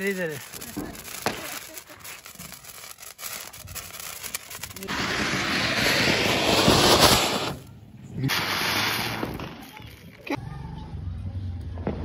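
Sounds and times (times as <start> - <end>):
sparkler crackling: 0.0 - 7.7, 8.3 - 10.4
firework hissing rush: 0.0 - 10.1.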